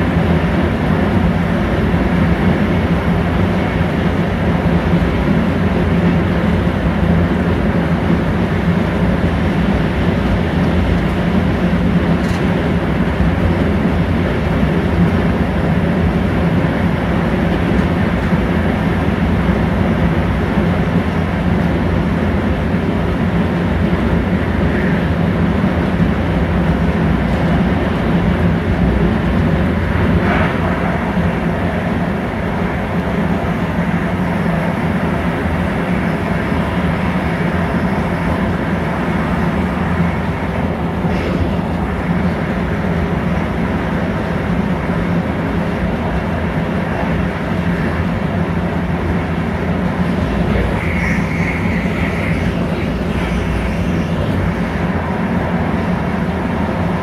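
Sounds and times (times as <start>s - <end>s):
faint constant hum: 0.0s - 57.0s
train coach rolling rumble: 0.0s - 57.0s.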